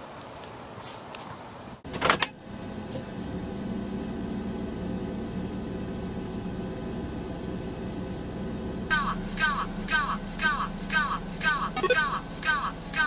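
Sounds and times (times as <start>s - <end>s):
car idling hum: 2.5s - 13.0s.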